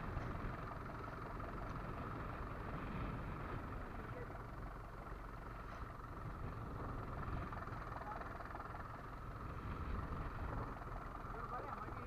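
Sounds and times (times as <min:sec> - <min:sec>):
boat engine running: 0:00.0 - 0:12.0
wind: 0:00.0 - 0:12.0.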